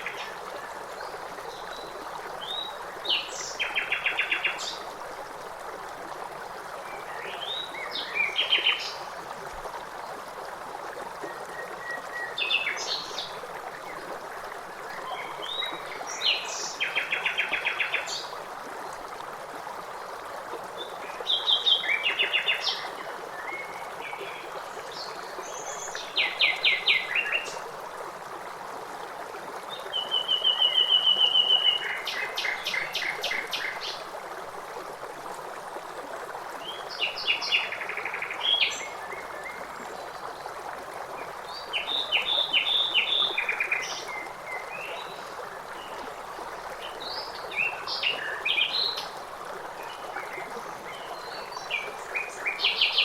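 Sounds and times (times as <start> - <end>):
stream rushing: 0.0 - 53.0.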